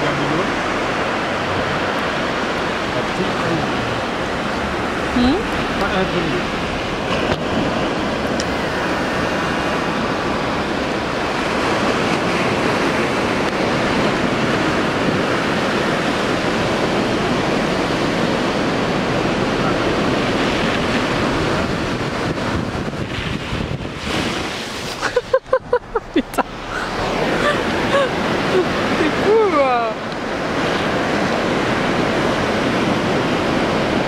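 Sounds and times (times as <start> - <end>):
breaking surf: 0.0 - 34.0
wind on microphone: 0.0 - 34.0.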